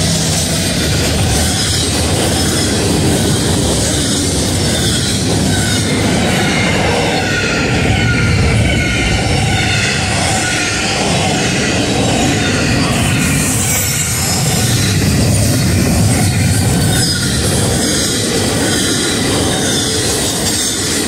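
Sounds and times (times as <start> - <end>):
freight train wheels rumbling: 0.0 - 21.0
wavering wheel squeal: 0.0 - 21.0.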